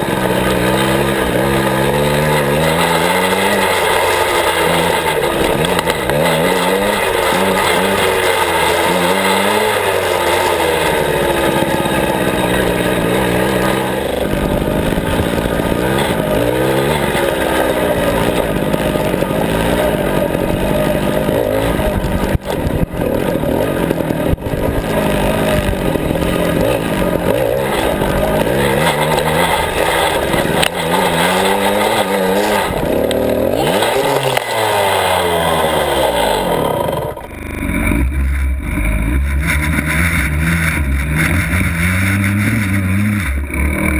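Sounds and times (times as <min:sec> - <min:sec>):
motorbike engine revving: 0:00.0 - 0:43.9.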